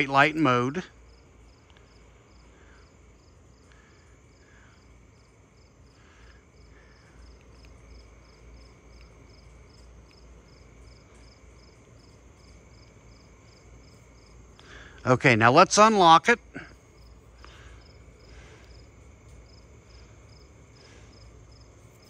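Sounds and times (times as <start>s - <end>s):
crickets chirping: 0.0s - 22.0s
low background rumble: 0.0s - 22.0s.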